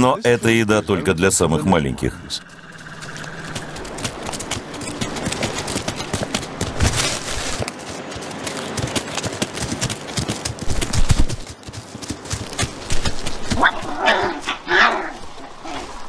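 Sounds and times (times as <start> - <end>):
paws pattering on stony ground: 2.5 - 16.0.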